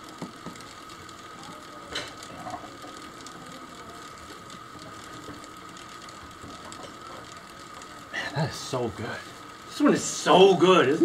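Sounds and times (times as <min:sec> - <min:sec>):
plastic gear train whining: 0:00.0 - 0:11.0.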